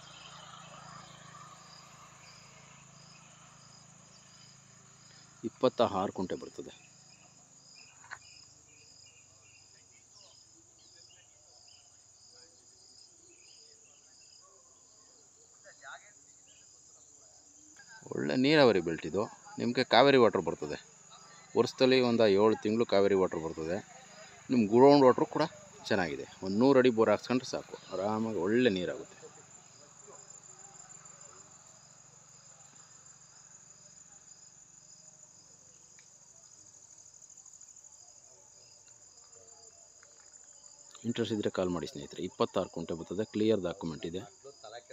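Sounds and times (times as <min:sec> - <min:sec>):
high-pitched insect trill: 0:00.0 - 0:44.9
pulsing insect call: 0:00.0 - 0:44.9.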